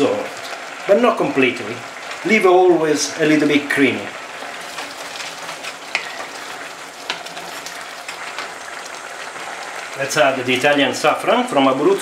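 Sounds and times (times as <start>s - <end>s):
rice simmering in a pan: 0.0s - 12.0s.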